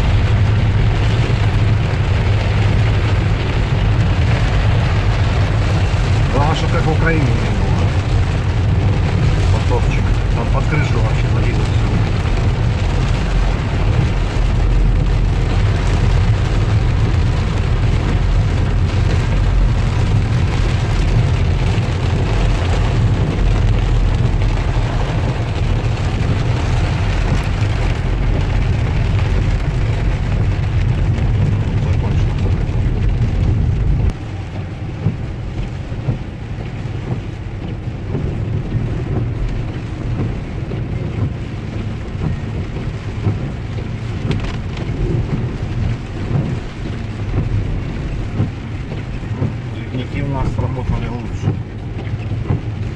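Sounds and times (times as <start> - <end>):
deep steady rumble: 0.0 - 52.9
rain beating on a car: 0.0 - 52.9.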